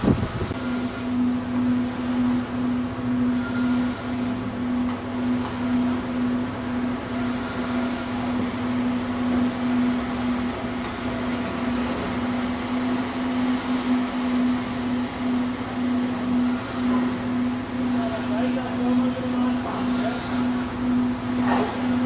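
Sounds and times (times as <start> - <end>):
ferry engines droning: 0.0 - 22.0.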